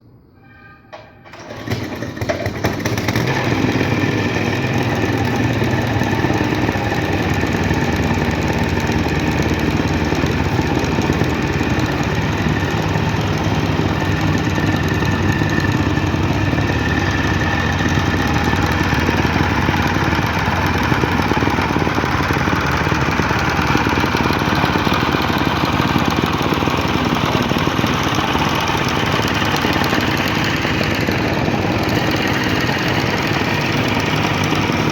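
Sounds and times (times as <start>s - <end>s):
soil compaction machine drone: 0.9s - 34.9s.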